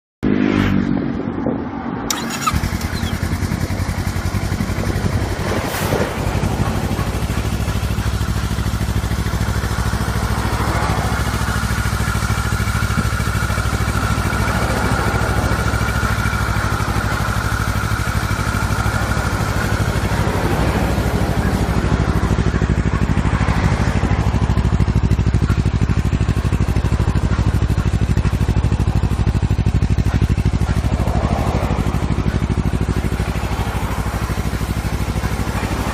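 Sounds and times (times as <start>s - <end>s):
motorcycle engine idling: 2.1s - 35.9s.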